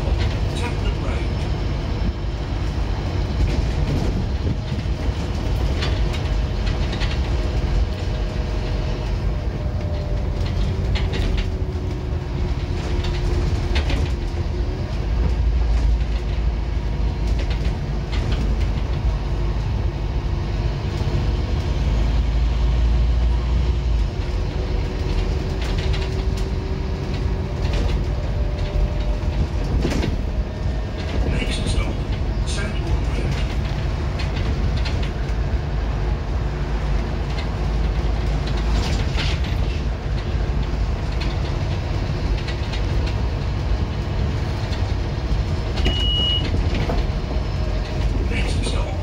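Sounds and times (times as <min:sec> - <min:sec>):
diesel bus engine drone: 0:00.0 - 0:49.0
interior rattles and clicks: 0:00.0 - 0:49.0
road rumble: 0:00.0 - 0:49.0.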